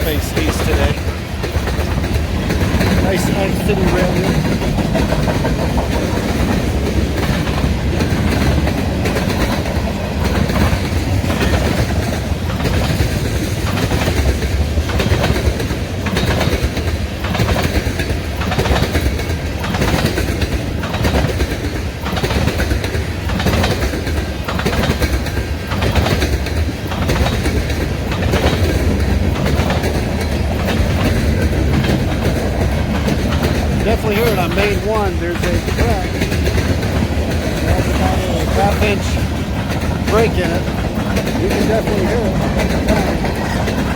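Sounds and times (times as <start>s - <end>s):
freight train rumble: 0.0s - 43.9s.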